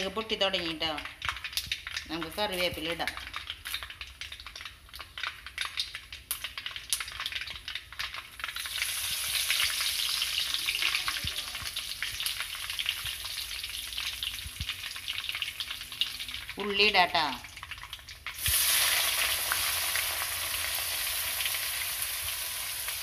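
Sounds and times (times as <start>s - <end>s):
curry leaves sizzling in oil: 0.0s - 23.0s
mustard seeds popping in oil: 0.0s - 23.0s.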